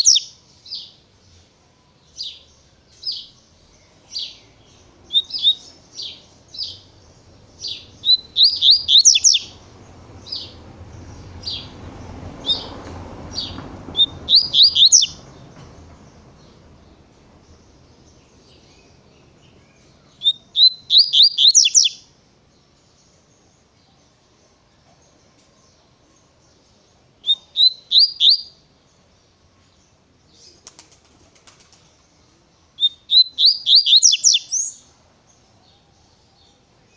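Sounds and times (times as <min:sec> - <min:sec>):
bird chirping: 0:00.0 - 0:36.9.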